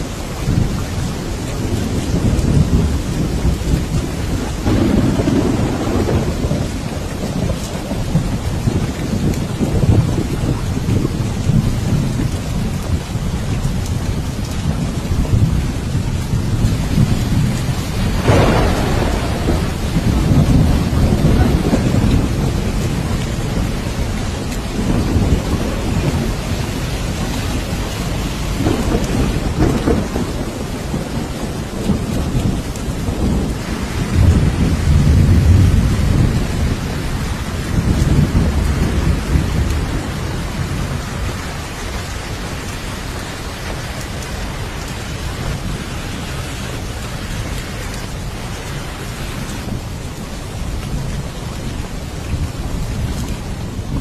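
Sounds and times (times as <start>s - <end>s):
steady rain: 0.0s - 54.0s
thunder rumbling: 0.0s - 54.0s.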